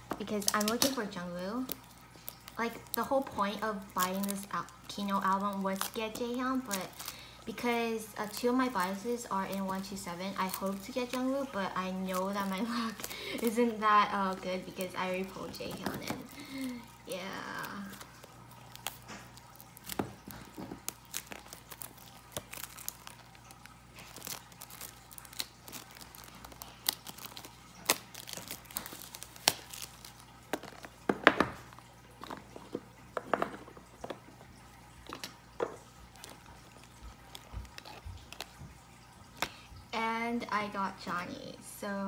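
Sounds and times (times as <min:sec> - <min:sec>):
plastic wrapping crinkling: 0:00.0 - 0:39.9.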